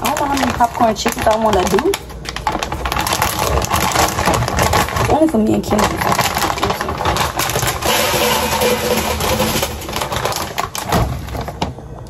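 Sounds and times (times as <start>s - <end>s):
food pieces clattering into basket: 0.0s - 11.8s
plastic bag crinkling: 0.0s - 12.0s.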